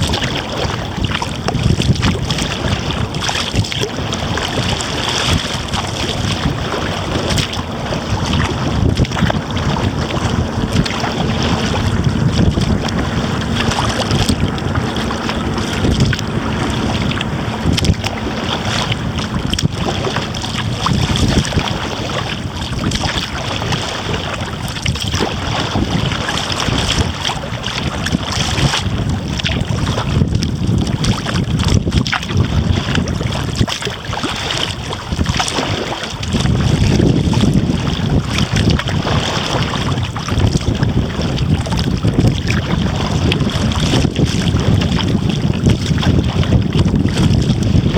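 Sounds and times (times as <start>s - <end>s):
water splashing around kayak: 0.0s - 47.9s
wind buffeting microphone: 0.0s - 47.9s.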